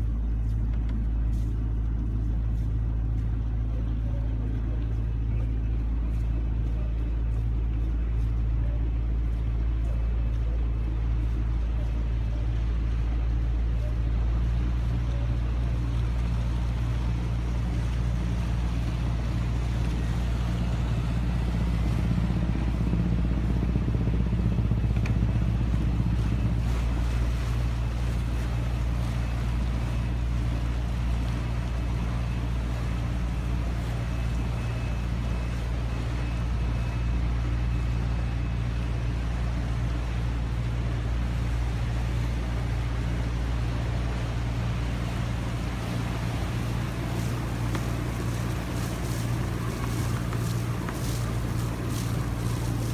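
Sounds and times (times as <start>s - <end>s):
boat engine humming: 0.0s - 52.9s
water along hull: 0.0s - 52.9s.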